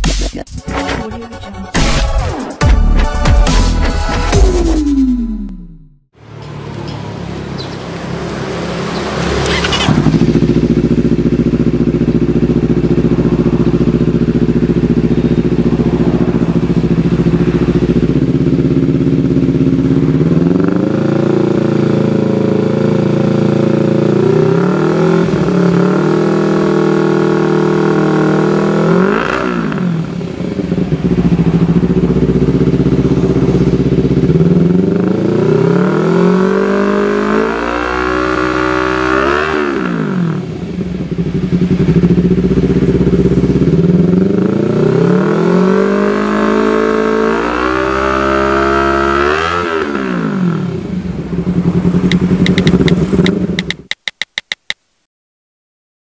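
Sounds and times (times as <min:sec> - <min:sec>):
motorcycle engine revving: 0:04.1 - 0:54.5.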